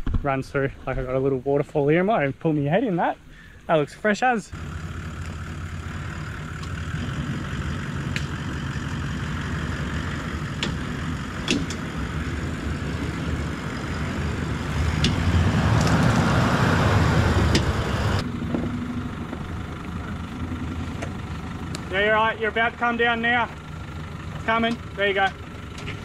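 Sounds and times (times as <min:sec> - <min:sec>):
off-road engine running low revs: 0:04.5 - 0:26.0.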